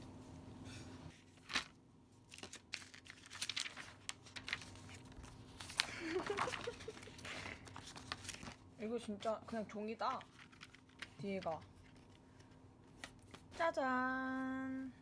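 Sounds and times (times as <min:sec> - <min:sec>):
paper and wrapping rustling: 0:01.1 - 0:14.0.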